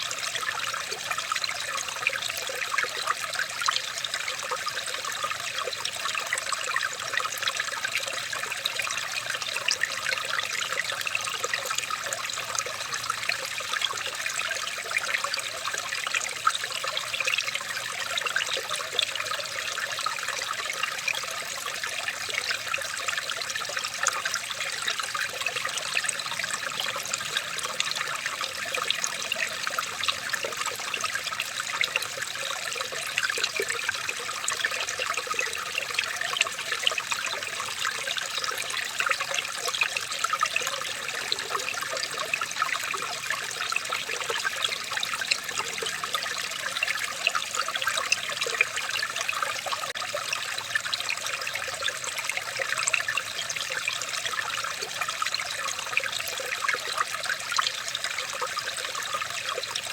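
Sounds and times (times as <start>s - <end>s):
water trickling and babbling: 0.0s - 59.9s.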